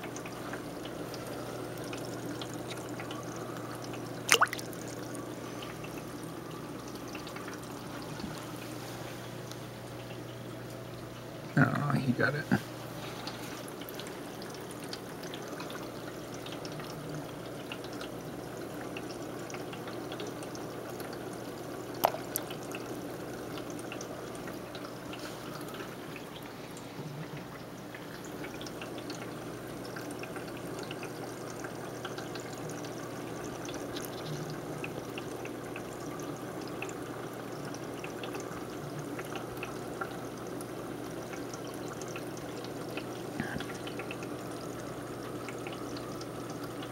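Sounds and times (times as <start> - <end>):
aquarium water trickling: 0.0 - 46.9.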